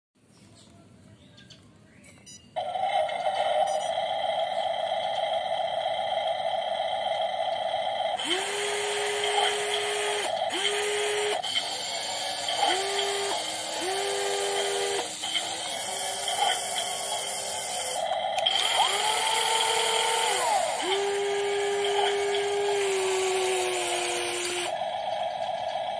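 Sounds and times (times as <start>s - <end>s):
electric motors whining: 2.6s - 25.9s.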